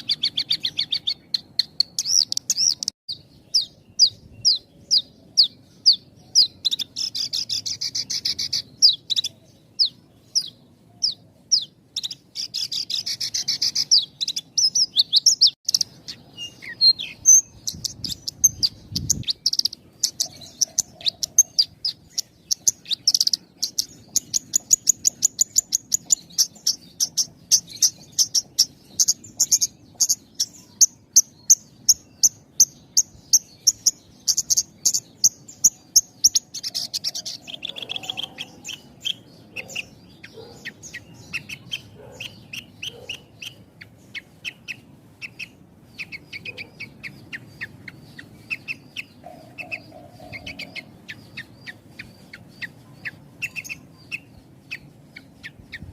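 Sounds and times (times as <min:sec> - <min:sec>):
lark singing high chirps: 0:00.0 - 0:55.9.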